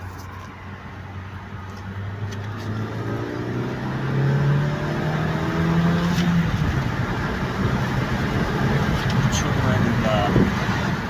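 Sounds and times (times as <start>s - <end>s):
car engine hum accelerating: 0.0s - 11.0s
road noise: 0.0s - 11.0s.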